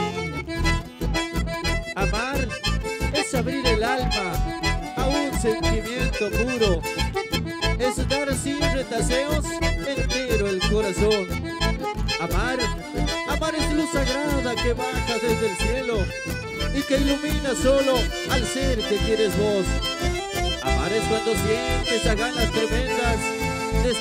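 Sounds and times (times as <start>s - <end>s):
accordion melody: 0.0s - 24.0s
bass and drum beat: 0.0s - 24.0s.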